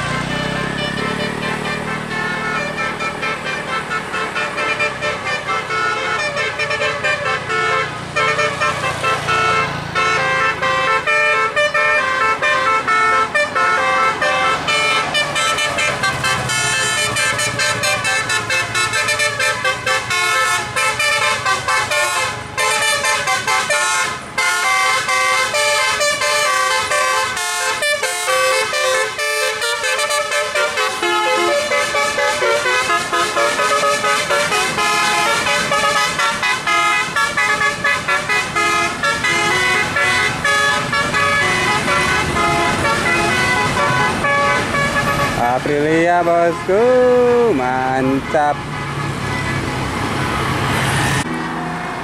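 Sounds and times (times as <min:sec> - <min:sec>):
multi-note bus horn tune: 0:00.0 - 0:51.2
vehicle engine running low: 0:00.0 - 0:52.0.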